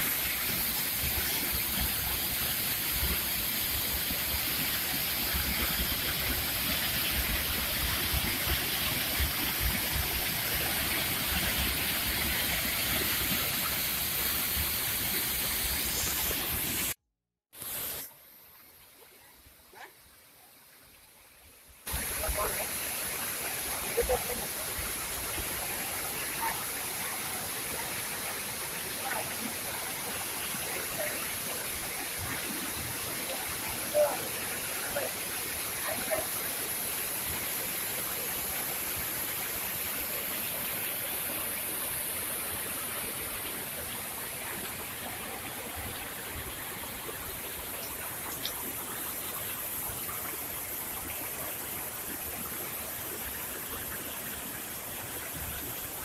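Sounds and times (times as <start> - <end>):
waterfall rushing: 0.0 - 17.0, 21.9 - 56.0
stream running over rocks: 0.0 - 56.0.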